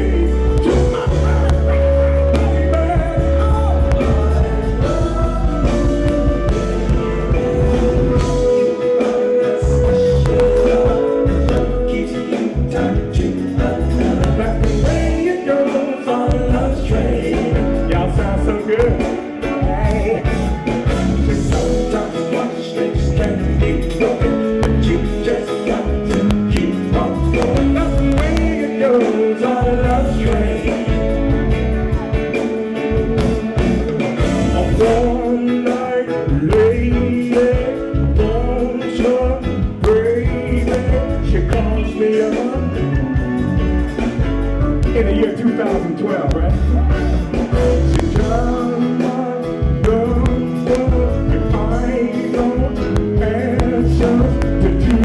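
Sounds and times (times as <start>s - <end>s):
funk band playing: 0.0s - 55.0s
person singing: 0.0s - 55.0s.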